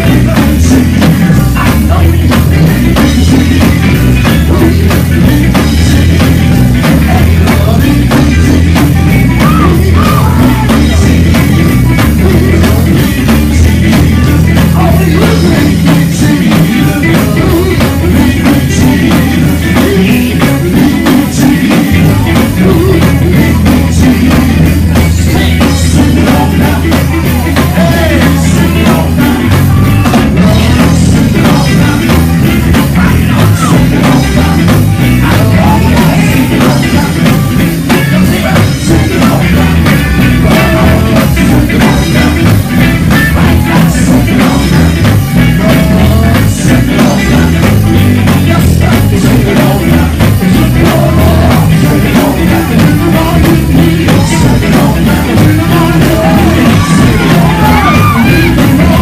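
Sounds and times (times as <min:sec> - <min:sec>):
backing voices singing: 0:00.0 - 0:59.0
drum kit: 0:00.0 - 0:59.0
electric guitar: 0:00.0 - 0:59.0
heavy bass notes: 0:00.0 - 0:59.0
lead singer on microphone: 0:00.0 - 0:59.0.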